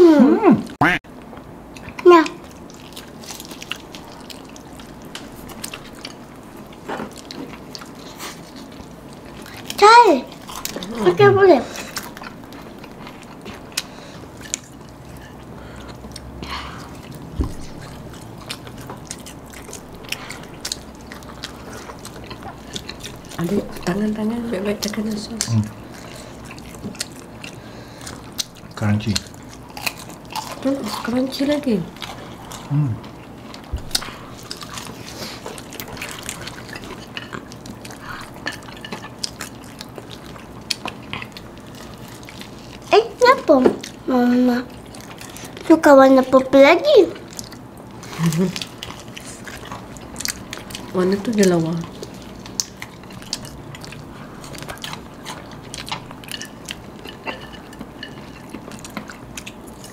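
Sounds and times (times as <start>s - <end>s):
crunchy chewing: 1.7s - 46.4s, 47.0s - 59.9s.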